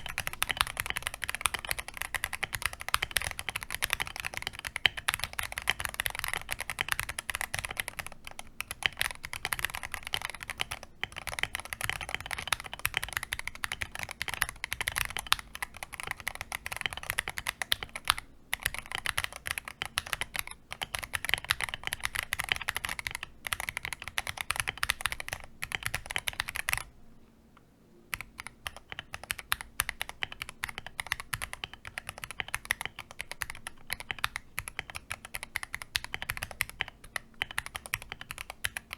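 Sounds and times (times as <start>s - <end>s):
mechanical keyboard typing: 0.0s - 26.9s, 28.1s - 38.9s.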